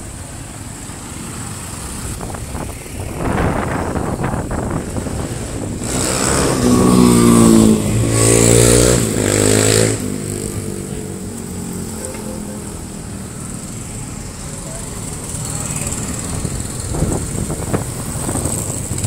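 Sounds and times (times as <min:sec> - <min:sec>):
motorbike engine passing: 0:02.2 - 0:19.0.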